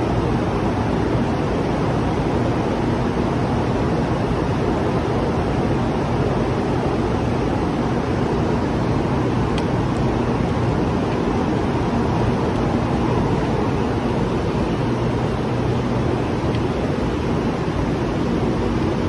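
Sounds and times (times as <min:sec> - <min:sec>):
rushing air noise: 0:00.0 - 0:19.0.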